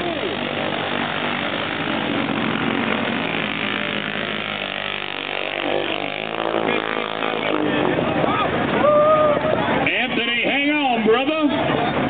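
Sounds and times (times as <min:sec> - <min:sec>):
atv engines under heavy throttle: 0:00.0 - 0:12.0.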